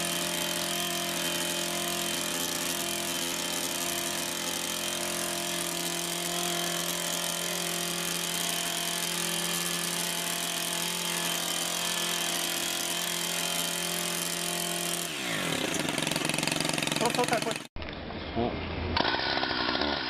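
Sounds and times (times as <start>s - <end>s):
small two-stroke engine running: 0.0s - 17.8s, 19.0s - 20.0s.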